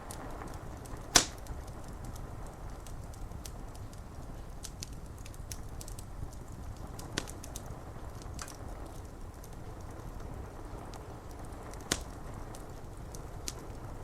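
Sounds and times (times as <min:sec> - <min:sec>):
fire crackling and popping: 0:00.0 - 0:14.0
rain on window glass: 0:00.0 - 0:14.0.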